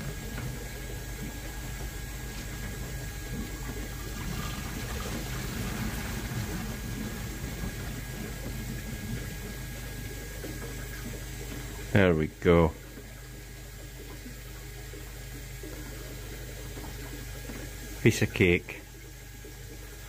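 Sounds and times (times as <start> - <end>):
pond pump humming: 0.0 - 20.0
water flowing through pipes: 0.0 - 20.0.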